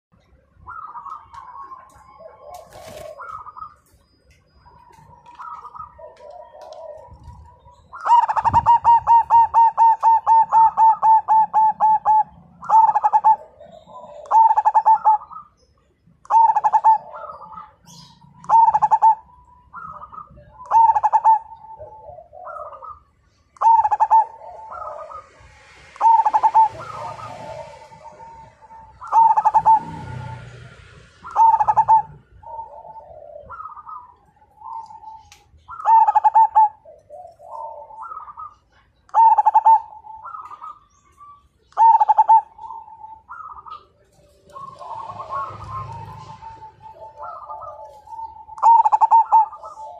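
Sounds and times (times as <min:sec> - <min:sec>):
dove cooing: 0:00.5 - 0:15.6, 0:16.2 - 0:49.9.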